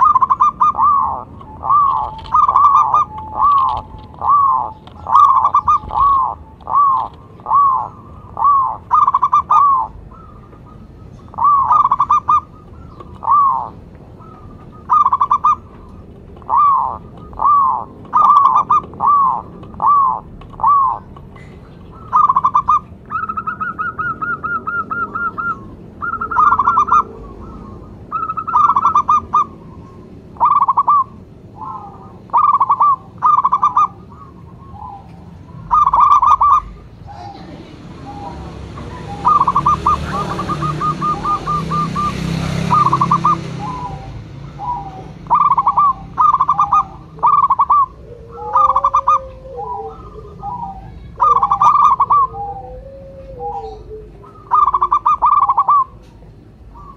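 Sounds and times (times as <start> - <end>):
dove cooing: 0.0 - 56.9.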